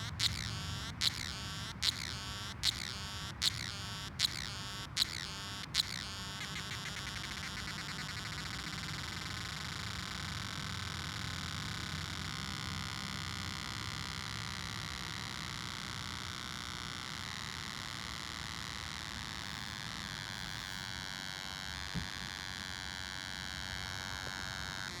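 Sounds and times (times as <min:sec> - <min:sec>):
electronic cicada buzzing: 0:00.0 - 0:25.0.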